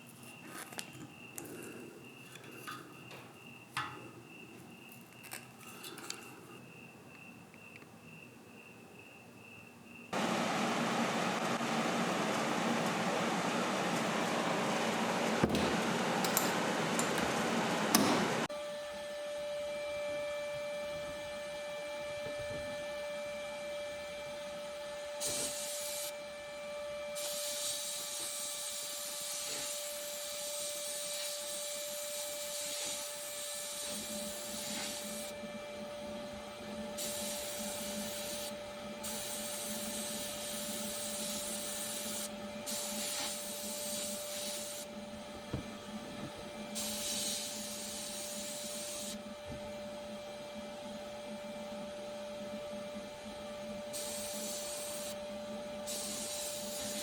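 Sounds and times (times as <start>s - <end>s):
machine humming: 10.2s - 57.0s.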